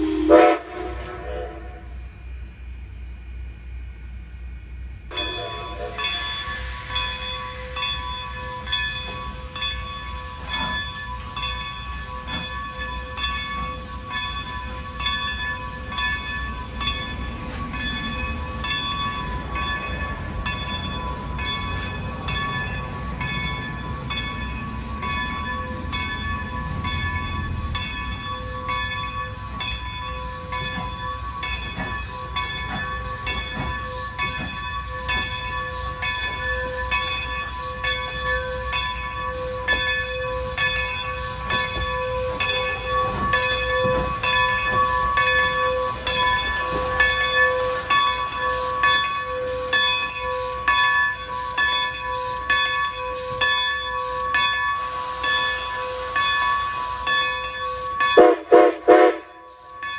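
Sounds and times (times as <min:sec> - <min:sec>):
railroad bell ringing: 0:00.0 - 0:03.8, 0:04.6 - 0:59.9
train rumble: 0:00.0 - 0:59.9.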